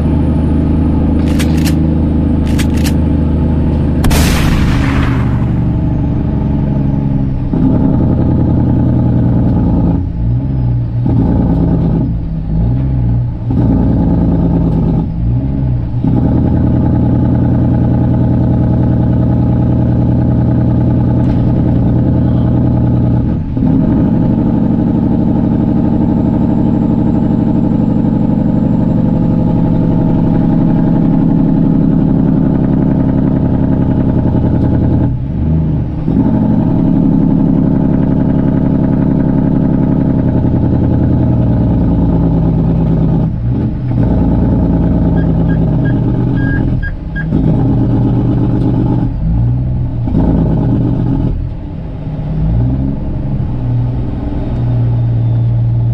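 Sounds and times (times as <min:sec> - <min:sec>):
diesel truck engine under load: 0:00.0 - 0:55.9.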